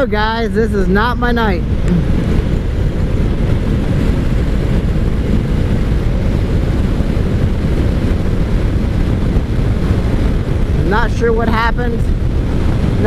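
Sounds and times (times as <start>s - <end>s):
motorcycle engine: 0.0s - 13.0s
road noise: 0.0s - 13.0s
wind buffeting microphone: 0.0s - 13.0s.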